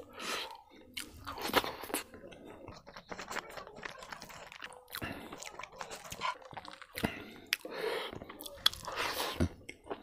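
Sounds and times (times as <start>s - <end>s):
wet chewing and smacking: 0.2s - 10.0s.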